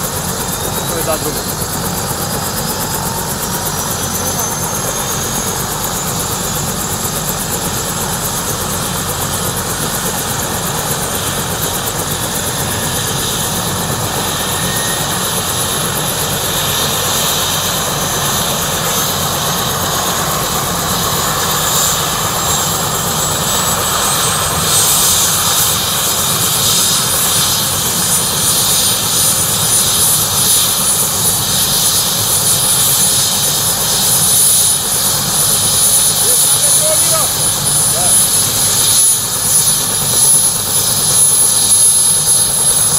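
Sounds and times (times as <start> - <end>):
helicopter rotor beat: 0.0 - 42.9
helicopter turbine whine: 0.0 - 42.9.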